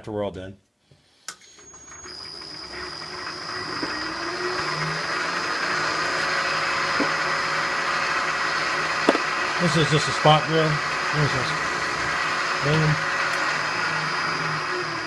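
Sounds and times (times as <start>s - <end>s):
milling machine spindle whining: 1.6s - 15.0s.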